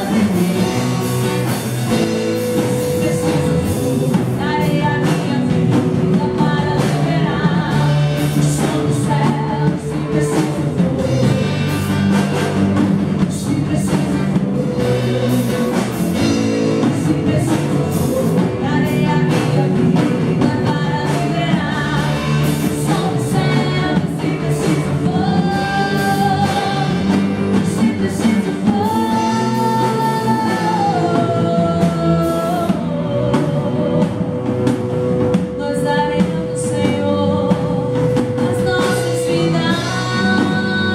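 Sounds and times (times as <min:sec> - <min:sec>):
band with drums and guitar: 0:00.0 - 0:40.9
voices singing worship song: 0:00.0 - 0:40.9.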